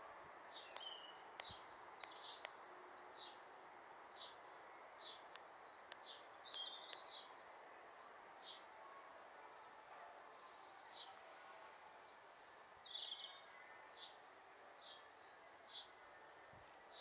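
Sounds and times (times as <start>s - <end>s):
faint background noise: 0.0s - 17.0s
small birds chirping: 0.4s - 3.4s, 4.1s - 8.6s, 9.7s - 16.0s.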